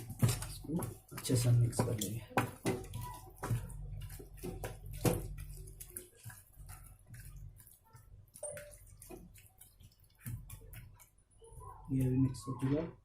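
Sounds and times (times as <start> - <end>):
wet squelches of hand mixing: 0.0 - 13.0.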